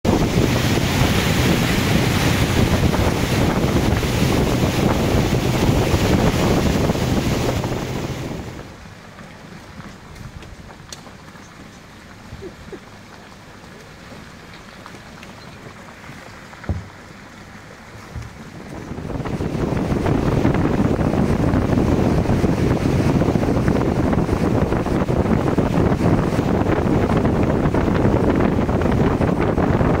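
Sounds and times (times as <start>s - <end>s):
wind buffeting microphone: 0.0s - 9.0s, 9.6s - 30.0s
water rushing past hull: 0.0s - 30.0s.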